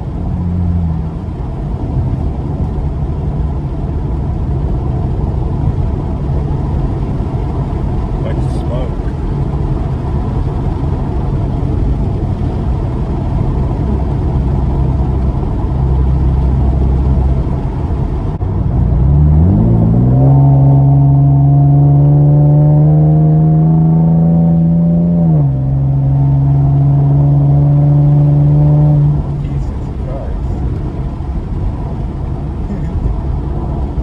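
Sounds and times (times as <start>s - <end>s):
car engine from inside cabin: 0.0s - 34.0s
road rumble: 0.0s - 34.0s.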